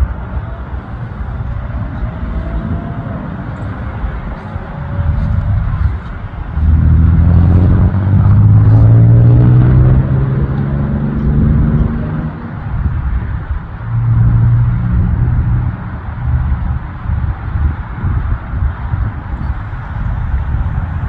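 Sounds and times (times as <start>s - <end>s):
jet aircraft passing overhead: 0.0s - 17.6s.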